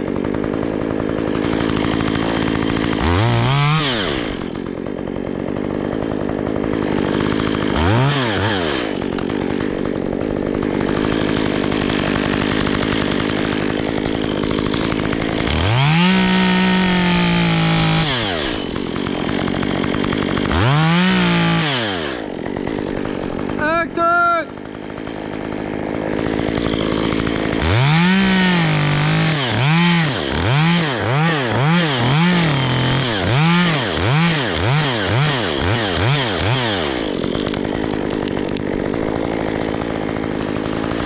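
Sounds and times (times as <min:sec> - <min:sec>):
chainsaw idling and revving: 0:00.0 - 0:41.0.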